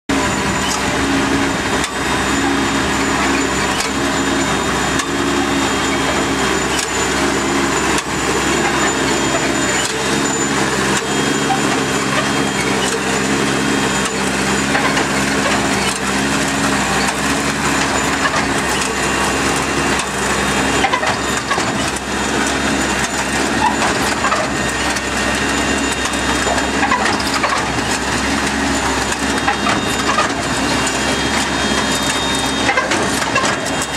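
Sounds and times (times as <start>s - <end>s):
engine and hydraulic drone: 0.1s - 33.9s
machine clatter and rattle: 0.1s - 33.9s.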